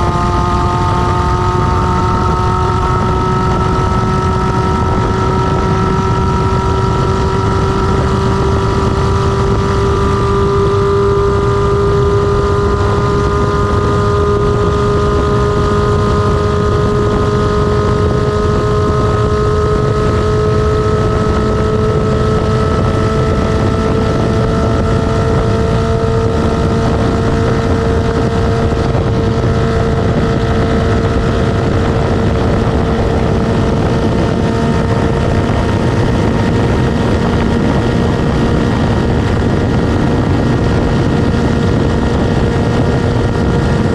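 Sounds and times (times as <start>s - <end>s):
motorcycle engine drone: 0.0s - 43.9s
wind on microphone: 0.0s - 43.9s.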